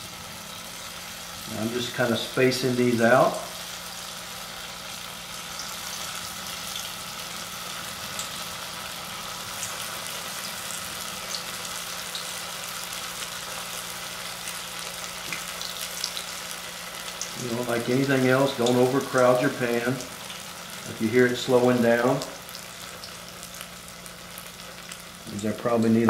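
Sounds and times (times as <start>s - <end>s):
tofu frying in hot oil: 0.0s - 26.0s.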